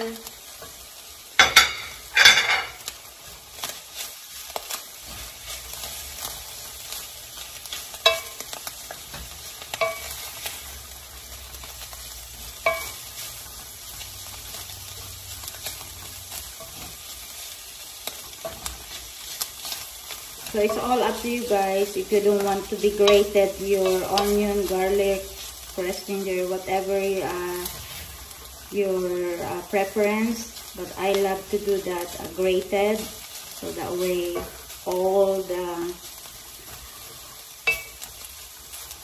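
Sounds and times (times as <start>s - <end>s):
chicken sizzling in a pot: 0.0s - 39.0s.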